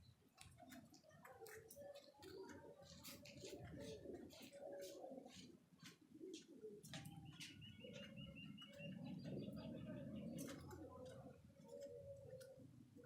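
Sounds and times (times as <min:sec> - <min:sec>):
pigeons cooing softly: 0:00.0 - 0:13.0.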